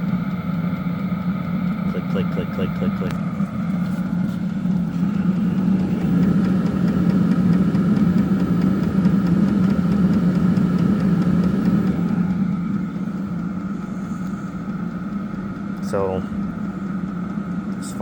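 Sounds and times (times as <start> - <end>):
heater fan and combustion hum: 0.0 - 18.0.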